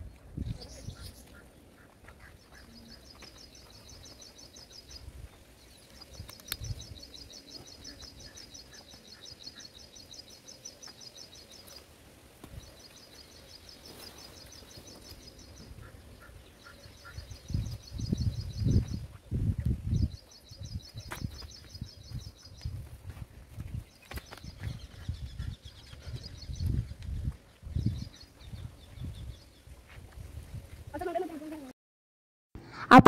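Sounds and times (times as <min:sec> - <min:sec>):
faint outdoor background noise: 0:00.0 - 0:31.7.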